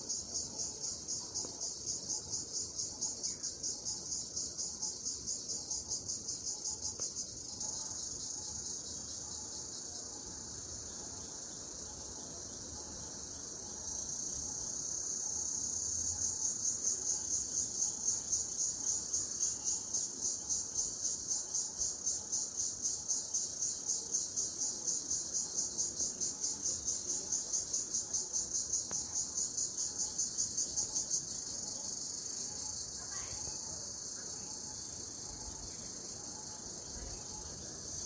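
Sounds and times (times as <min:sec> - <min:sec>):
insects buzzing and trilling: 0:00.0 - 0:38.0.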